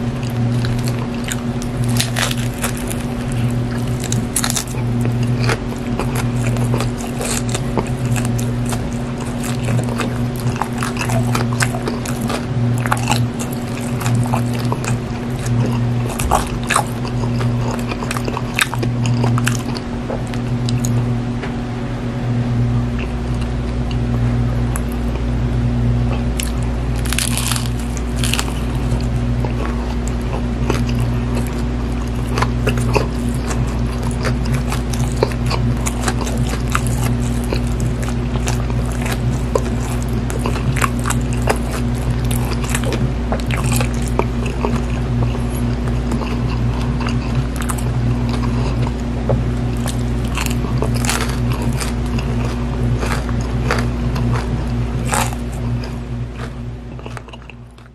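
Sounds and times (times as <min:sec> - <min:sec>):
crunchy chewing: 0:00.0 - 0:21.2, 0:22.8 - 0:57.9
steady low hum: 0:00.0 - 0:57.9.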